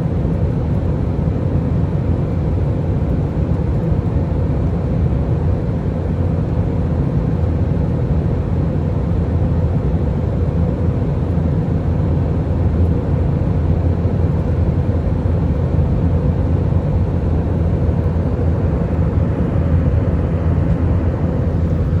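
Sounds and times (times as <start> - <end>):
constant low hum: 0.0 - 22.0
engine and airflow rumble: 0.0 - 22.0.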